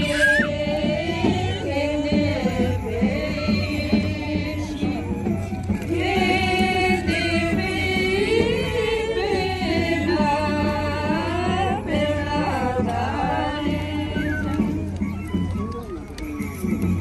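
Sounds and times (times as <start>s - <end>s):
group singing without instruments: 0.0s - 5.0s, 5.9s - 14.6s.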